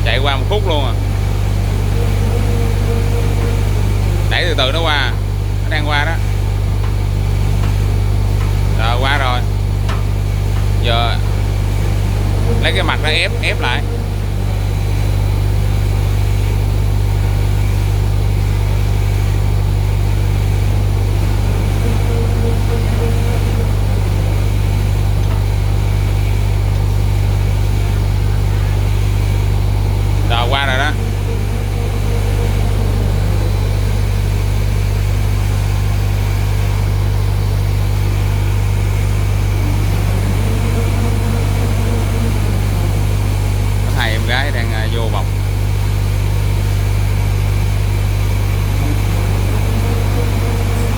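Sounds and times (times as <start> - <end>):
faint mechanical noise: 0.0 - 50.9
tissue folding machine humming: 0.0 - 50.9.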